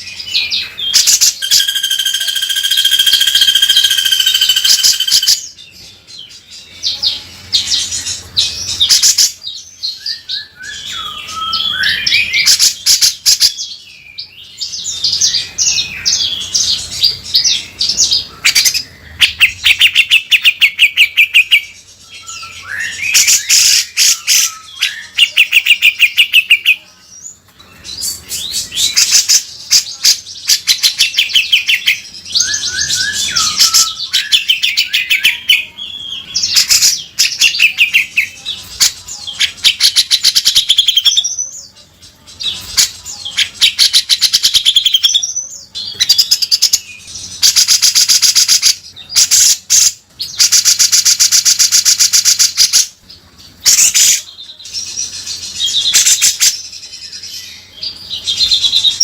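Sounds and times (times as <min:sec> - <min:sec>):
bird singing chattering trills: 0:00.0 - 0:59.0.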